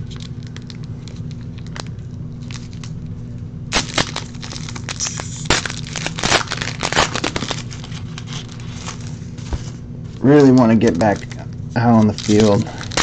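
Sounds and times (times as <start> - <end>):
foil wrapper tearing and crinkling: 0.0 - 3.0, 3.7 - 13.0.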